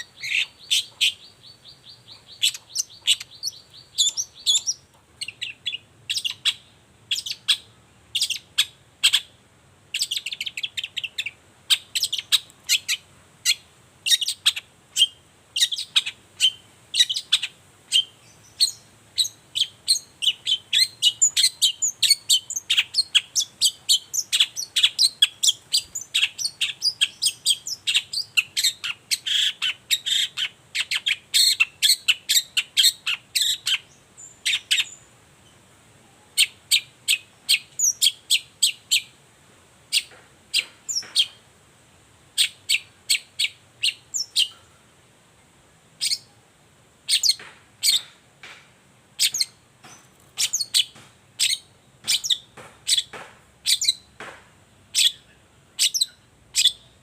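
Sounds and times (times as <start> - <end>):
bird chattering song: 0.0 - 35.6, 36.2 - 39.2, 39.9 - 41.4, 42.4 - 44.8, 46.0 - 46.4, 47.1 - 48.6, 49.2 - 57.0.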